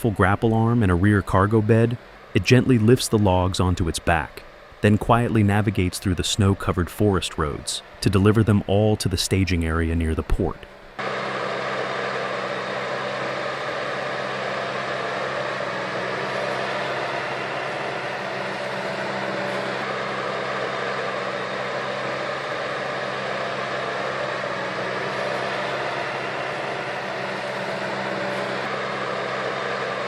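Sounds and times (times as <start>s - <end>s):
heavy machine engine droning: 0.0s - 30.0s.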